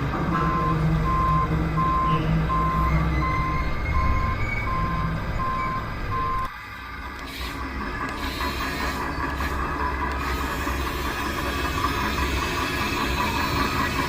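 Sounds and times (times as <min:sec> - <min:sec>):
low engine rumble: 0:00.0 - 0:14.0
truck reversing alarm beeps: 0:00.3 - 0:06.5, 0:08.1 - 0:14.0.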